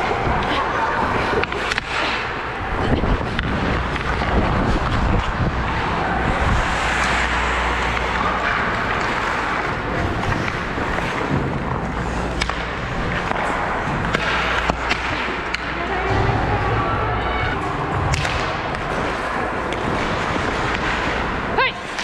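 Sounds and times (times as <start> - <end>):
low rumble: 0.0 - 21.6
skate blades scraping ice: 0.3 - 16.1, 18.0 - 22.0.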